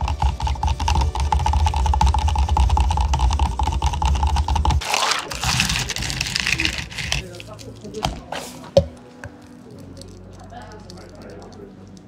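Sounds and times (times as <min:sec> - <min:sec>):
spoon stirring in plastic cup: 0:00.0 - 0:12.0.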